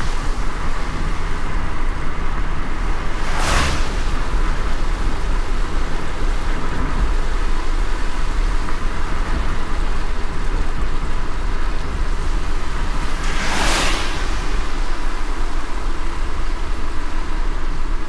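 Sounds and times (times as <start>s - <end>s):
car engine and tyres rumble: 0.0s - 18.0s
rain hiss: 0.0s - 18.0s.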